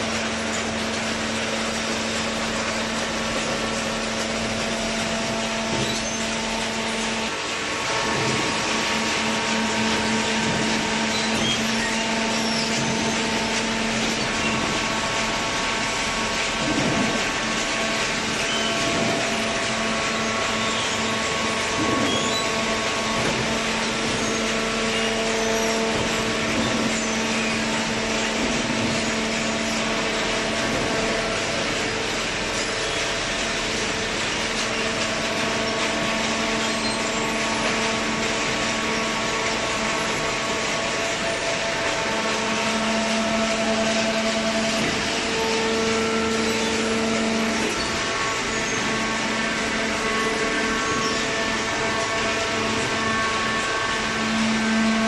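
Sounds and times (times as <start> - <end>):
hydraulic baler humming: 0.0 - 55.0.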